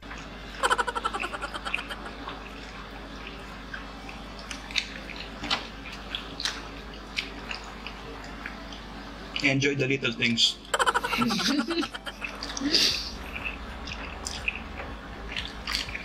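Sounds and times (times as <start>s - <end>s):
steady low hum: 0.1s - 9.4s, 10.6s - 16.0s
chewing and lip-smacking: 0.1s - 9.5s, 11.9s - 16.0s.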